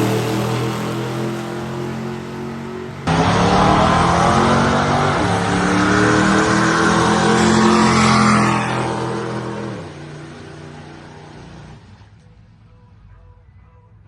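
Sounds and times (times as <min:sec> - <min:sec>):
car engine accelerating hard: 0:00.0 - 0:12.2.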